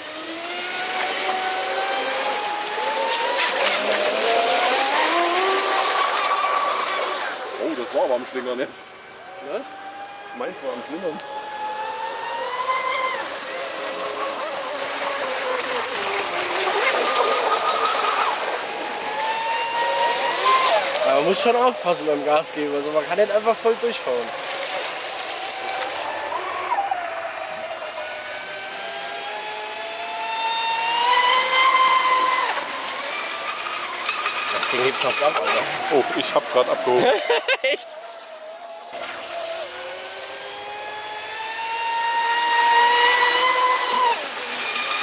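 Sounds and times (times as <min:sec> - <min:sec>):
electric motor whine: 0:00.0 - 0:23.0, 0:23.9 - 0:37.4, 0:38.0 - 0:45.0.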